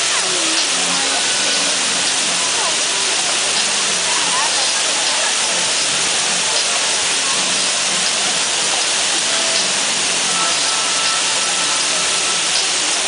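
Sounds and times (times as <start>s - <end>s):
fountain water jets spraying: 0.0s - 13.0s.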